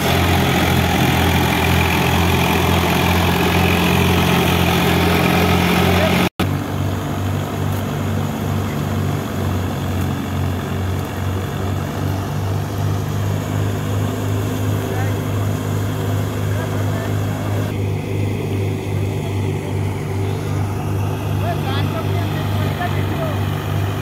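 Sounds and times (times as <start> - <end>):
thresher pulsing: 0.0 - 24.0
tractor diesel engine under load: 0.0 - 24.0.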